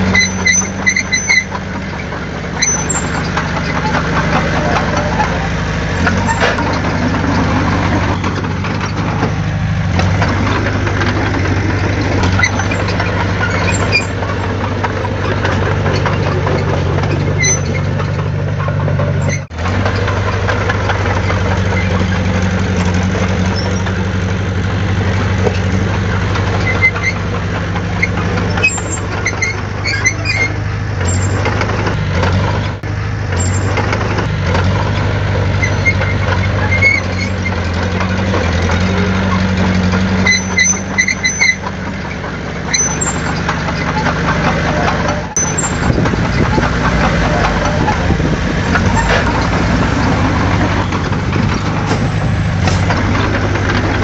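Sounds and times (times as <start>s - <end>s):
faint high clanks and squeaks: 0.0s - 24.2s, 25.2s - 54.0s
heavy diesel machinery running: 0.0s - 54.0s.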